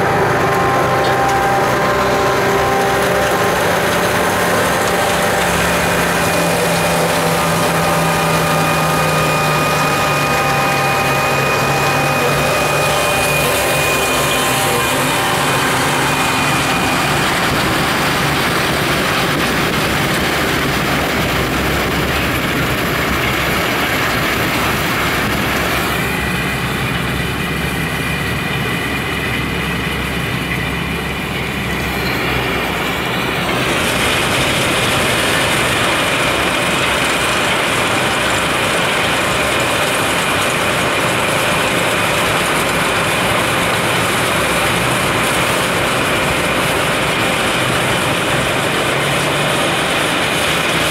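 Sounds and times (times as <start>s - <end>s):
rotary snow blower running: 0.0s - 50.9s.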